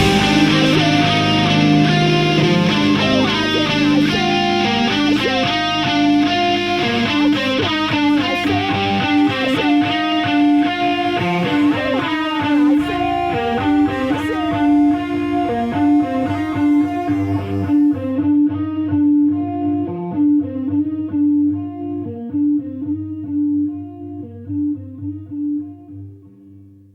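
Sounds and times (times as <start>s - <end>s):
rock music with electric guitar: 0.0s - 26.2s.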